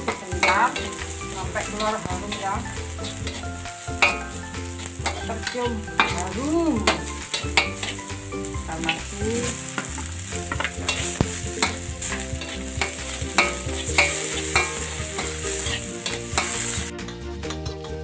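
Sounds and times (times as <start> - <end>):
metal spatula scraping a pan: 0.0 - 16.9
food sizzling in a wok: 0.0 - 18.0.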